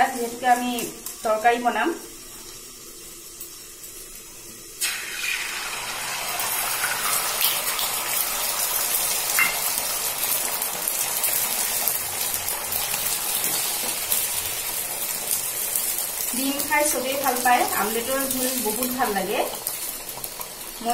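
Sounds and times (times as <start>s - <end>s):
egg sizzling in a hot pan: 0.0s - 20.9s.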